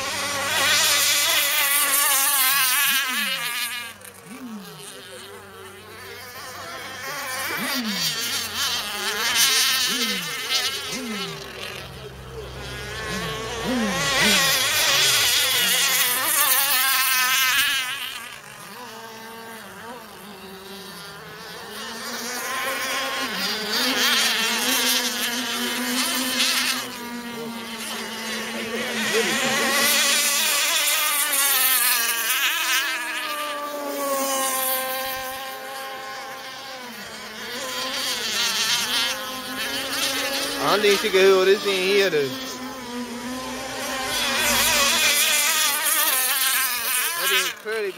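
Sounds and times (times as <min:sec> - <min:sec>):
model boat engine running: 0:00.0 - 0:47.9.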